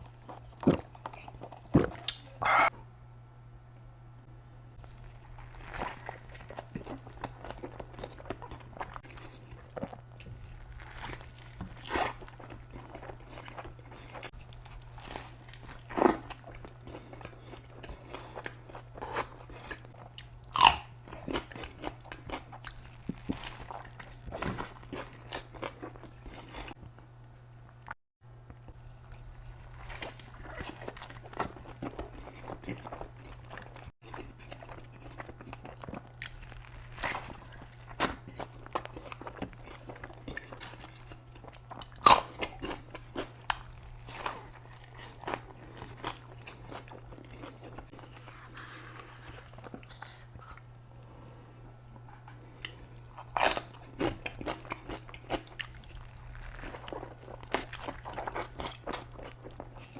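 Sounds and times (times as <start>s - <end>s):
steady low hum: 0.0s - 59.9s
crunchy bites and chewing: 4.8s - 26.8s, 28.7s - 50.7s, 52.6s - 59.9s.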